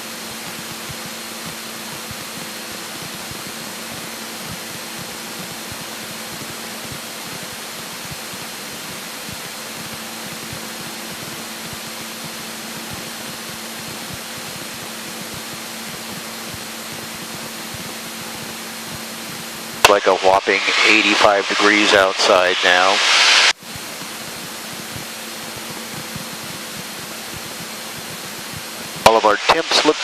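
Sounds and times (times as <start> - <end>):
airplane engine and propeller drone: 0.0 - 30.0
faint steady hum: 0.0 - 30.0.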